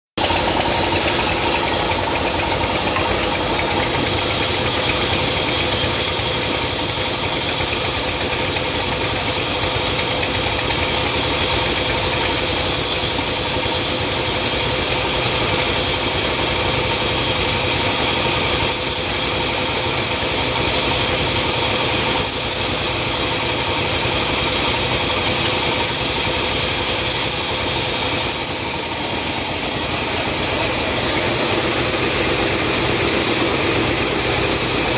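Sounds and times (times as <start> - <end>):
high saw whine: 0.2 - 34.9
sawmill machinery hum: 0.2 - 34.9.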